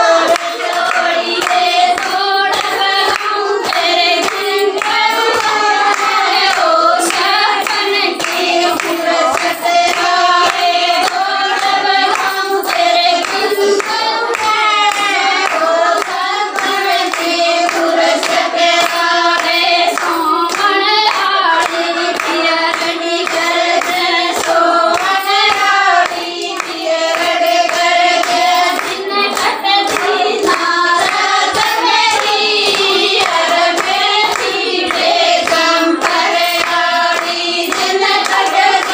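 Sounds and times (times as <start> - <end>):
hand-clapping: 0.0 - 38.9
person singing folk song: 0.0 - 38.9.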